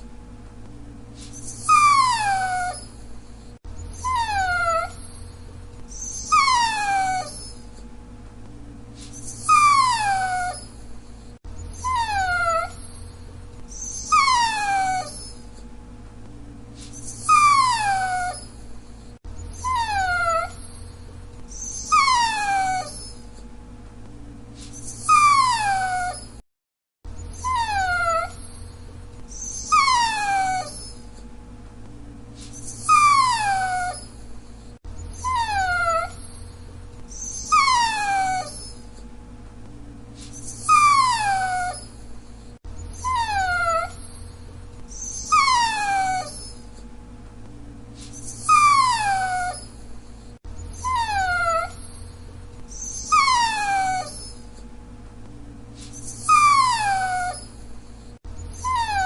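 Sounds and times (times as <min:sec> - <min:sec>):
dog whining: 0:01.2 - 0:07.9, 0:09.0 - 0:15.7, 0:16.8 - 0:23.5, 0:24.6 - 0:26.4, 0:27.1 - 0:31.3, 0:32.4 - 0:39.1, 0:40.2 - 0:46.9, 0:48.0 - 0:54.7, 0:55.8 - 0:59.0.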